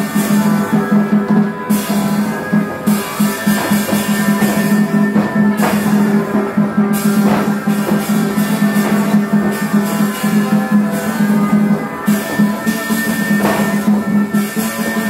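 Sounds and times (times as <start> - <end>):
melodic instrument lines: 0.0 - 15.0.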